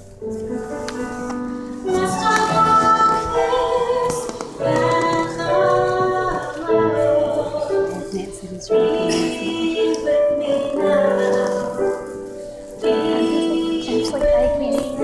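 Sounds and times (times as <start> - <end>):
musical backing: 0.0 - 15.0
woman singing: 0.9 - 12.2, 12.8 - 15.0.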